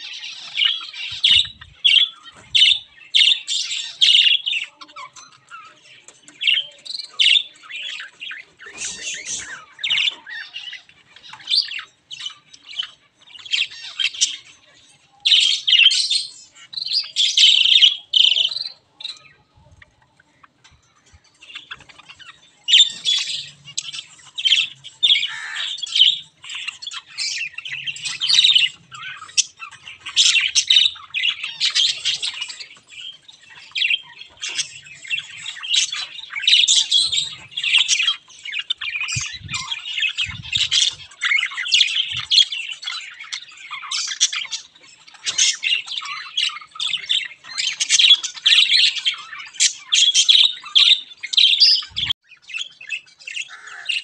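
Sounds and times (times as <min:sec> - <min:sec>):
sparrows chirping and twittering: 0:00.0 - 0:54.0.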